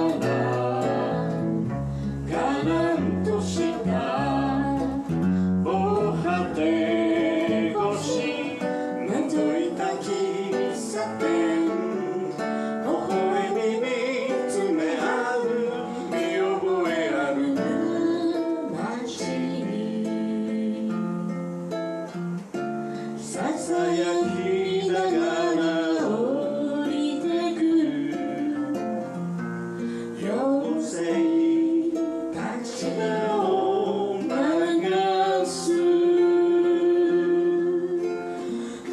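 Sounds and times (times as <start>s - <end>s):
person singing: 0.0s - 38.9s
strummed acoustic guitar: 0.0s - 38.9s.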